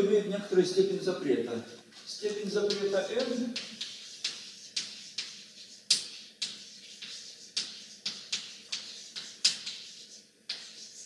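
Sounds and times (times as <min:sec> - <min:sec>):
chalk tapping and scraping: 0:01.6 - 0:11.0.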